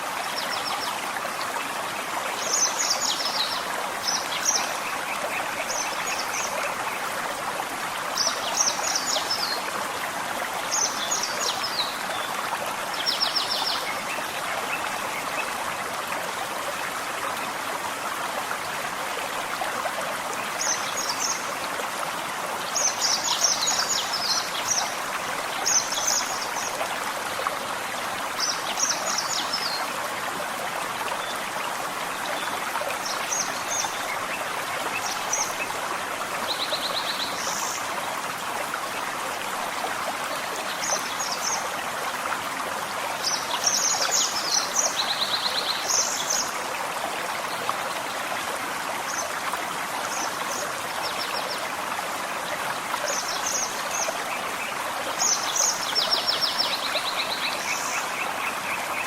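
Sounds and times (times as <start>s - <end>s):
gentle stream flowing: 0.0s - 59.0s.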